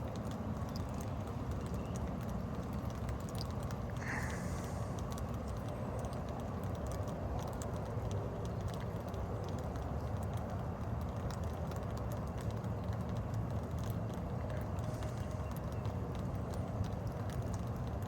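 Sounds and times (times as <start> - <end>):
raindrops ticking on hard surfaces: 0.0 - 18.0
steady rain: 0.0 - 18.0.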